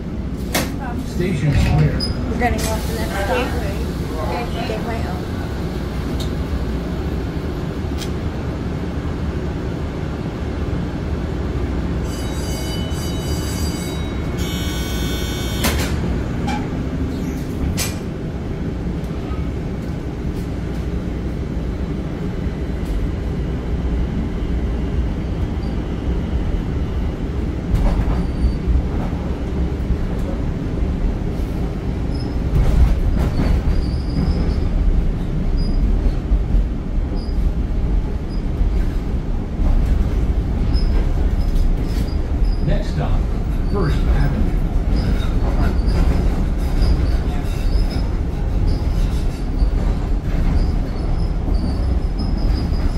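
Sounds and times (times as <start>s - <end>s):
light-rail car rumbling: 0.0s - 52.9s.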